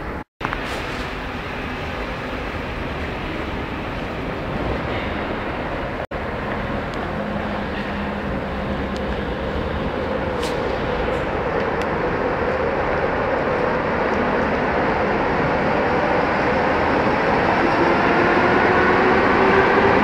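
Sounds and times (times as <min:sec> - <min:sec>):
tram rumbling in tunnel: 0:00.0 - 0:20.0.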